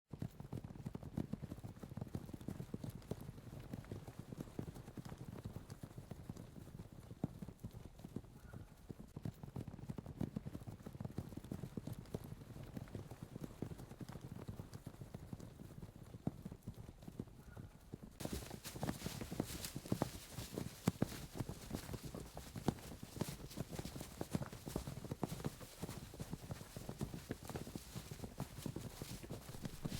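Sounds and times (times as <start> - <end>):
horses galloping: 0.1 - 29.9.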